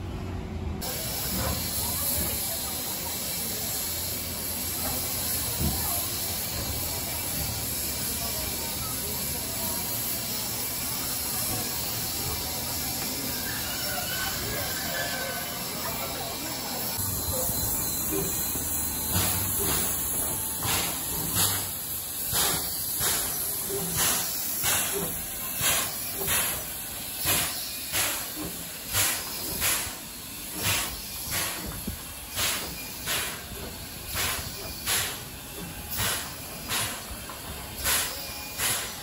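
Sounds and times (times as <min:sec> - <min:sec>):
steam locomotive chuffing: 0:00.0 - 0:39.0
steam hissing: 0:00.8 - 0:39.0.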